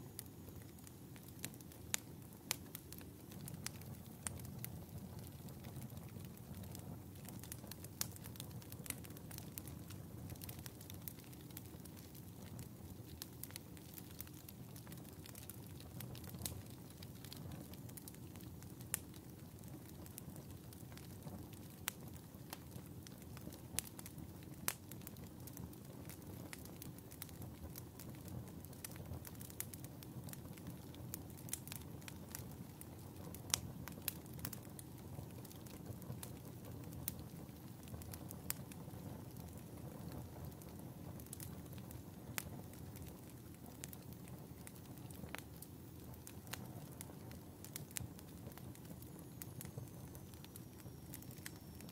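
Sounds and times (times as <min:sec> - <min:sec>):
fire rumbling and crackling: 0:00.1 - 0:51.9.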